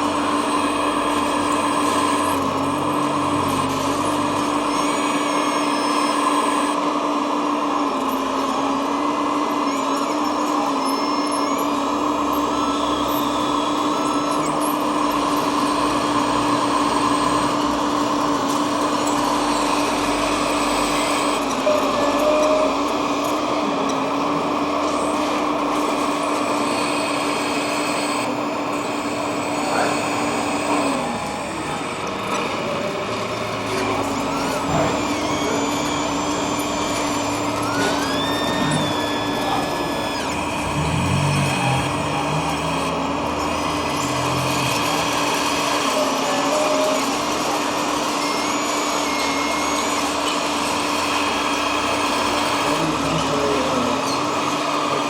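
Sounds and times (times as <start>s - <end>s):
high-pitched hum: 0.0s - 55.0s
hydraulic pump electric whine: 0.0s - 55.0s.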